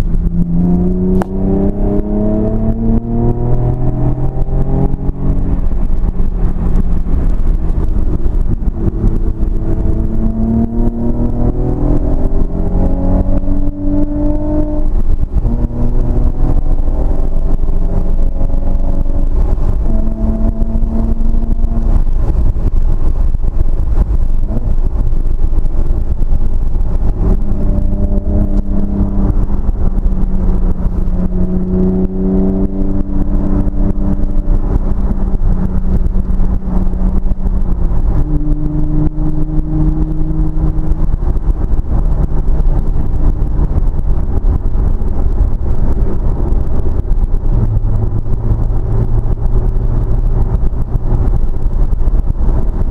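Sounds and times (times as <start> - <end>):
car engine changing revs: 0.0 - 52.9
constant low rumble: 0.0 - 52.9.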